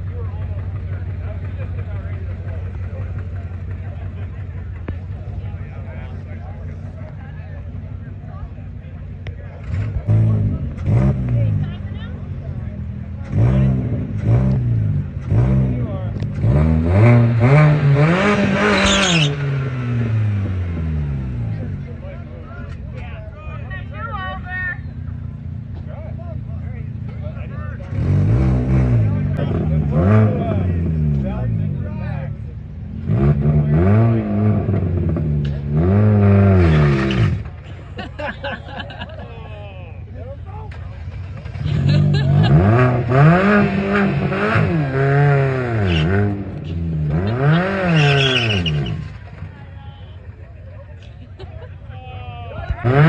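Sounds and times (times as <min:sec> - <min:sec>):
car engine revving: 0:00.0 - 0:38.7, 0:40.1 - 0:50.6, 0:52.4 - 0:53.0
crowd chatter: 0:00.0 - 0:53.0.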